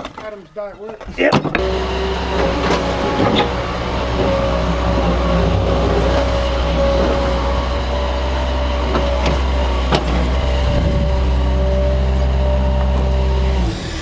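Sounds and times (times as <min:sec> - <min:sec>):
excavator engine running: 0:01.6 - 0:14.0.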